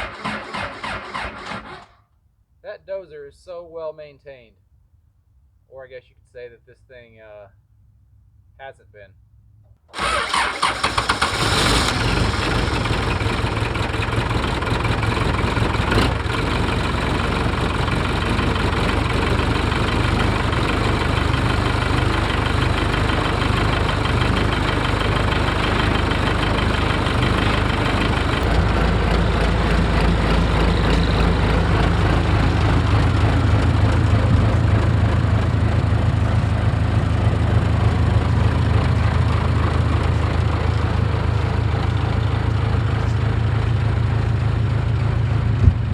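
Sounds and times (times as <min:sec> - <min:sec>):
diesel engine running: 0:00.0 - 0:01.9, 0:09.9 - 0:45.9.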